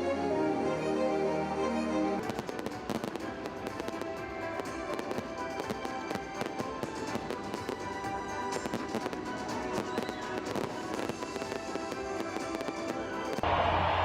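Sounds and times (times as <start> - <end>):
fireworks bangs and crackles: 2.2 - 13.5.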